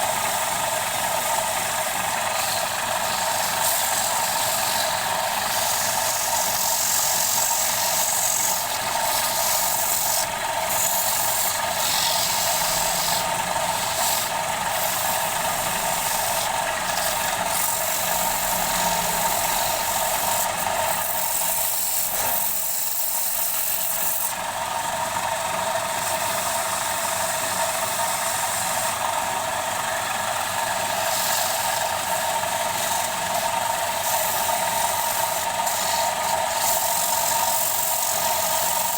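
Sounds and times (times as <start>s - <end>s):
tool scraping spinning wood: 0.0s - 38.9s
wood lathe whining: 0.0s - 38.9s.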